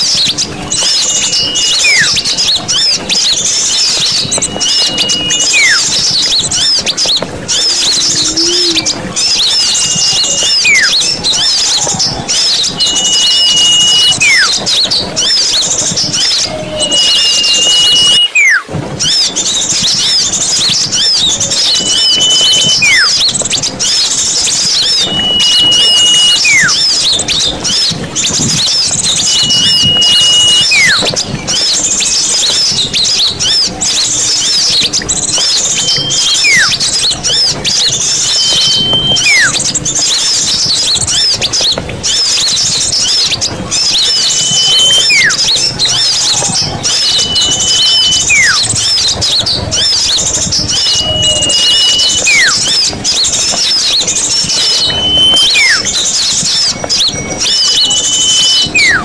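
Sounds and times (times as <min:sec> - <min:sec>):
bird whistle call: 0:00.0 - 0:59.0
small birds chattering: 0:00.0 - 0:59.0.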